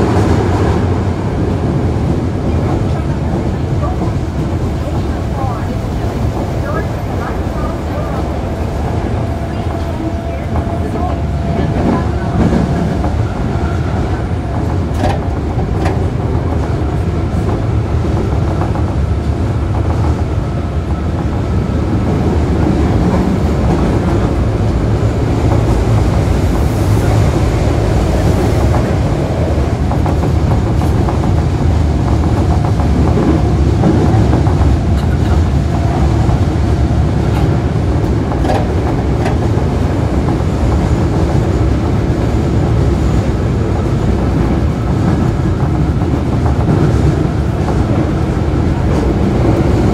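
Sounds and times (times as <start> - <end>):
clickety-clack of rail joints: 0.0 - 49.9
subway motor and wheel noise: 0.0 - 49.9.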